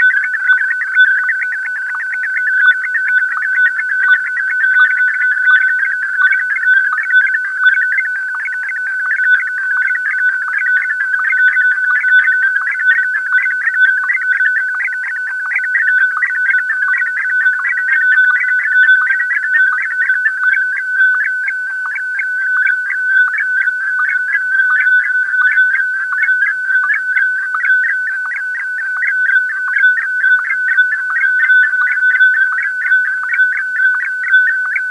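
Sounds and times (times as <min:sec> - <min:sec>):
radio data signal warbling tone: 0:00.0 - 0:34.9.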